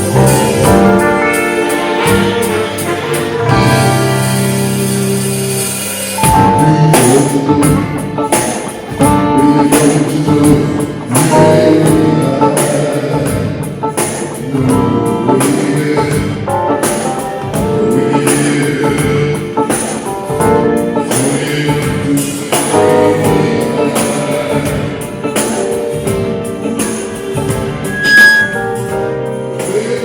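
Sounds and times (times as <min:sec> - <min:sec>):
drums: 0:00.0 - 0:30.0
live rock band playing: 0:00.0 - 0:30.0.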